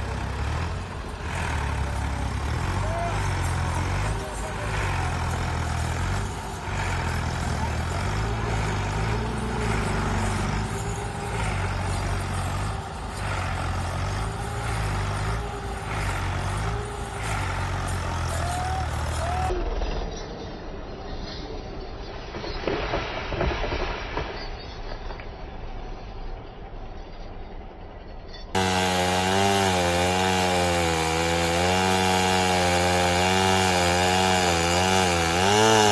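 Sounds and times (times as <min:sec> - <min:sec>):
heavy machine engine rumbling: 0:00.0 - 0:35.9.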